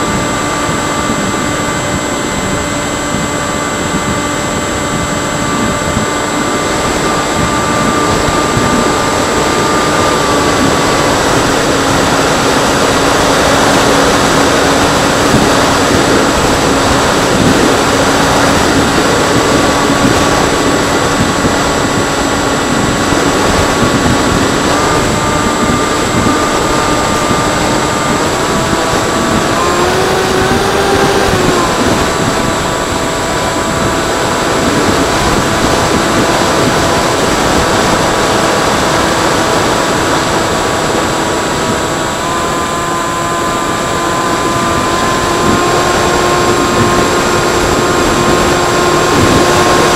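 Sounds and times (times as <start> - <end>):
model airplane motor hum: 0.0 - 49.9
rushing wind noise: 0.0 - 49.9.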